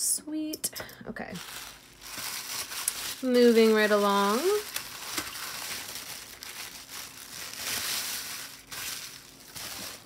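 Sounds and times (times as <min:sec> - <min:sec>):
tissue paper crinkling: 0:01.3 - 0:10.0.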